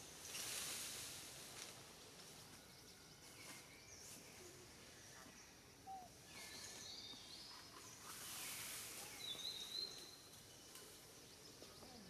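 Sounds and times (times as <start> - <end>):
birds chirping: 2.3 - 12.0.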